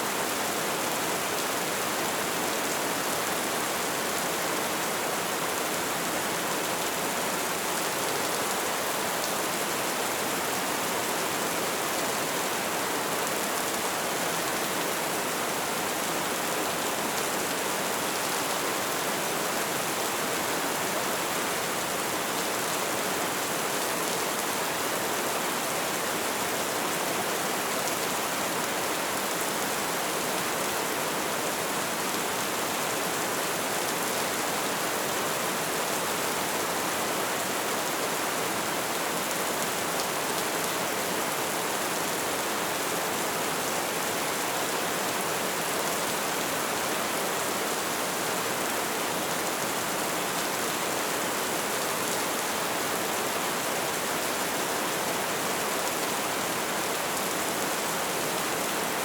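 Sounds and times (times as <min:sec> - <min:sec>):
rain falling steadily: 0:00.0 - 0:59.0.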